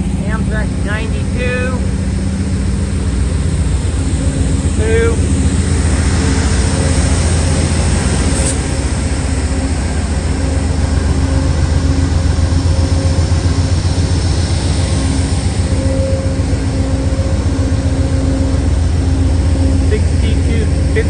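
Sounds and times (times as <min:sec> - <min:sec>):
train drone and hum: 0:00.0 - 0:21.0.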